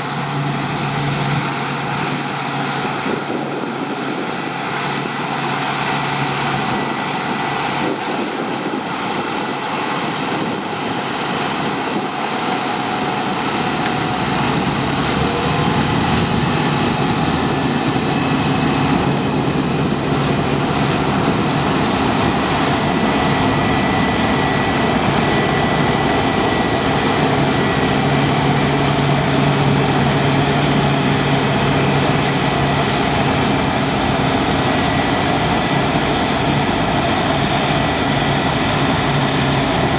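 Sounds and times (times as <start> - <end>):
harvest machinery engine drone: 0.0 - 39.9.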